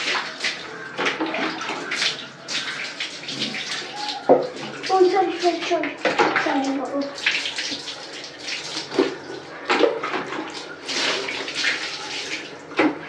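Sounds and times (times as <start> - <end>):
water splashing on tiled floor: 0.0 - 13.0.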